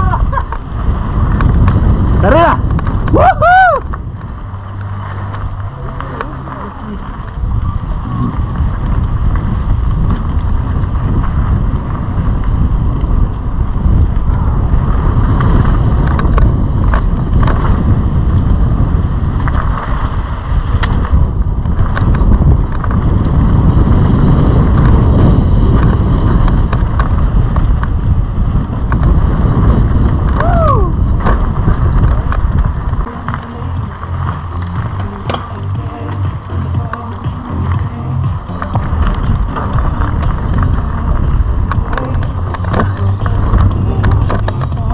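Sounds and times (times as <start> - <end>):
bike knocks and clicks: 0.0 - 3.2, 3.8 - 44.9
tyres rumbling over gravel: 0.0 - 44.9
wind buffeting microphone: 0.0 - 44.9.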